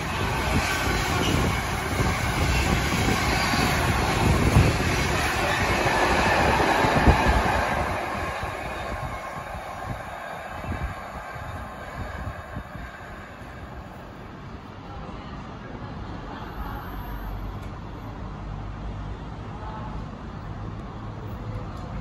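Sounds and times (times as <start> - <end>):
freight wagons rumbling on rails: 0.0 - 18.1.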